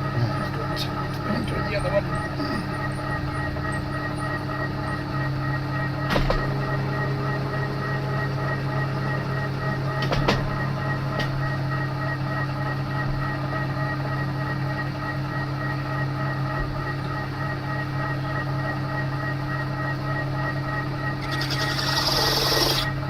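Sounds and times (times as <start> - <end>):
milling machine hum and whine: 0.0 - 23.0.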